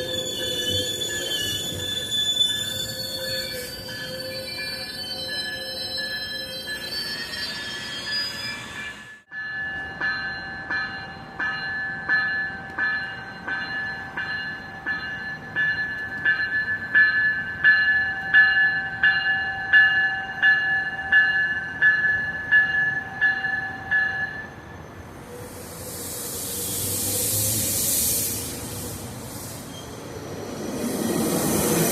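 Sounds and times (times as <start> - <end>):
railroad crossing bell ringing: 0.0 - 30.2.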